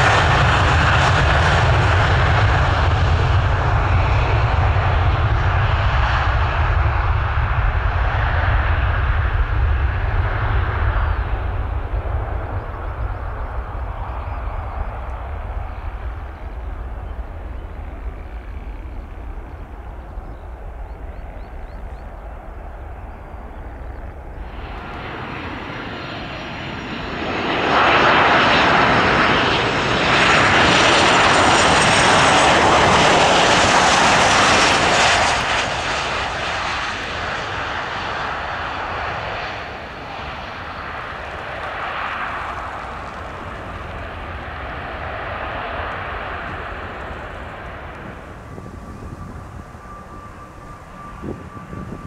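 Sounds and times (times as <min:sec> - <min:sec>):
distant jet rumble: 0:00.0 - 0:52.0
landing jet rushing whine: 0:00.0 - 0:52.0.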